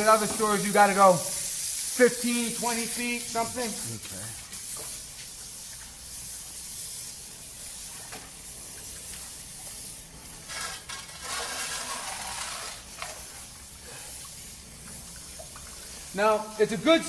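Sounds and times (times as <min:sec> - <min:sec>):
high-pressure water spraying: 0:00.0 - 0:17.0.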